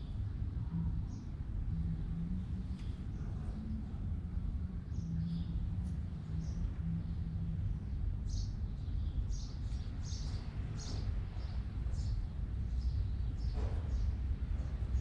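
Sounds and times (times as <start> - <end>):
low background rumble: 0.0 - 15.0
small birds chirping: 2.6 - 15.0.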